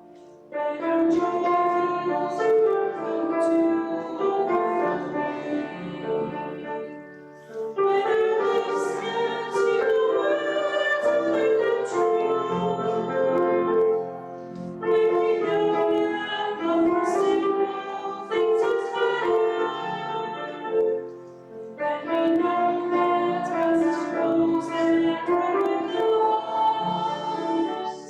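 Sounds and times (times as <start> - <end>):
hymn singing: 0.0 - 28.0
piano accompaniment: 0.0 - 28.0.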